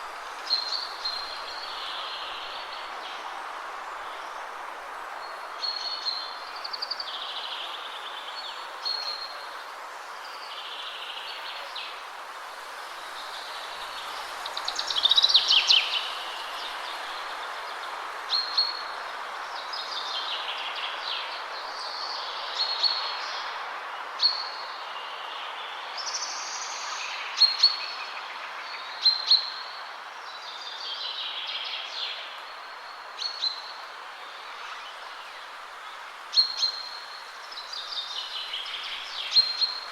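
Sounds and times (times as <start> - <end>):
songbirds singing: 0.0 - 12.1, 12.9 - 39.9
wind through trees: 0.0 - 39.9.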